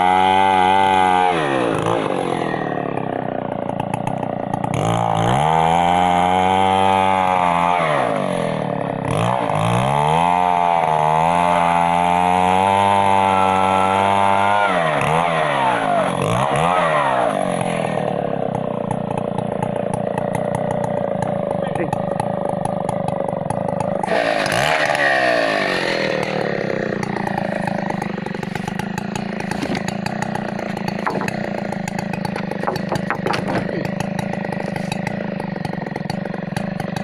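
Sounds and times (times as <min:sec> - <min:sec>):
chainsaw running at high revs: 0:00.0 - 0:37.0.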